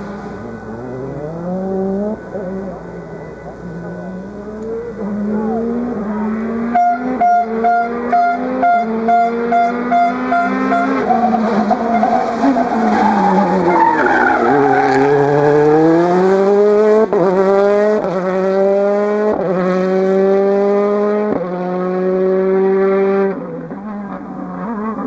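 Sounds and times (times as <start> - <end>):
rally car engine upshifting: 0.0 - 25.0.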